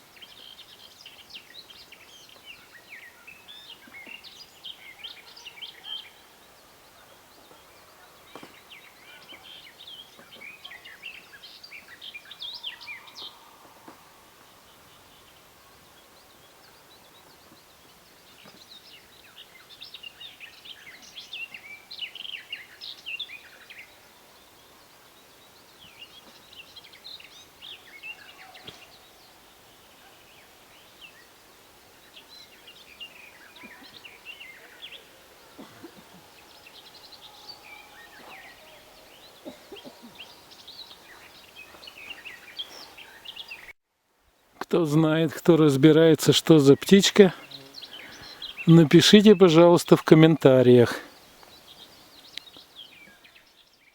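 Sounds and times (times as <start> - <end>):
songbird chirping and trilling: 0.0 - 43.8, 44.7 - 53.9
faint outdoor background: 0.0 - 53.9.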